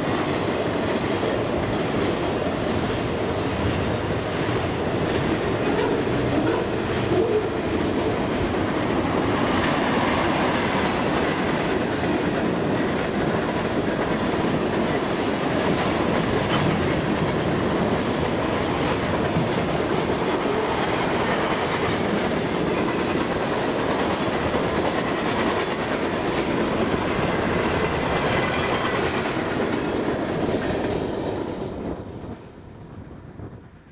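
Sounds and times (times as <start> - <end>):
train wheels rolling on rails: 0.0 - 33.9.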